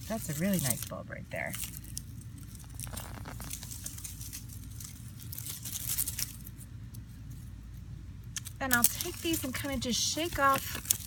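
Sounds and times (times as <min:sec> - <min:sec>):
dry earth crunching and crackling: 0:00.0 - 0:11.0
plants pulled from dry soil: 0:00.0 - 0:11.0.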